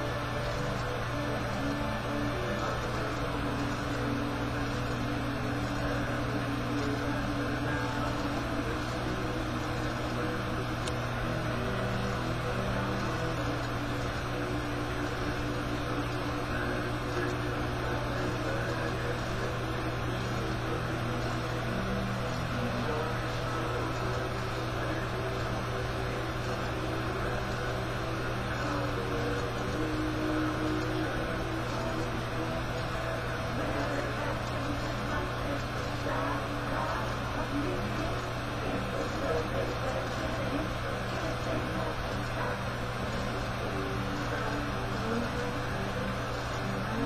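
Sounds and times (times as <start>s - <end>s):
steady low hum: 0.0s - 47.0s
television soundtrack: 0.0s - 47.0s.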